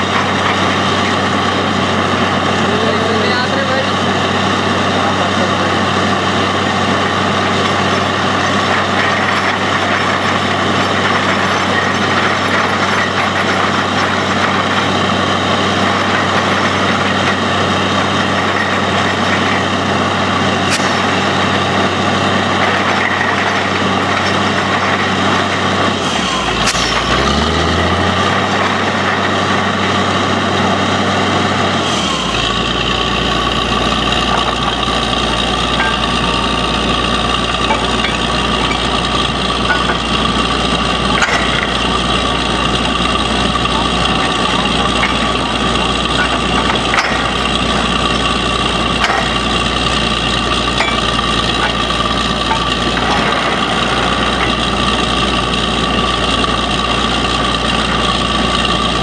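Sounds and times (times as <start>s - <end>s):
drilling rig engine droning: 0.0s - 59.0s.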